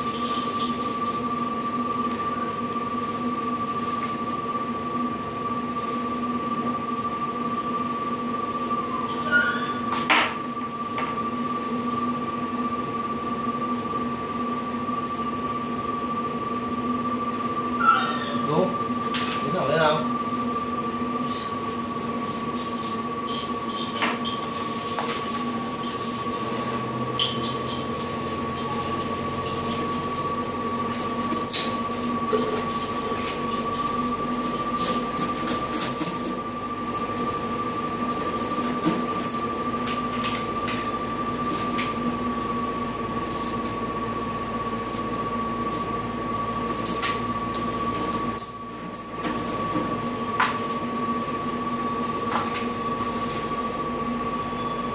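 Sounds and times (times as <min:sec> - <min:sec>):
machine hum with high whine: 0:00.0 - 0:54.9.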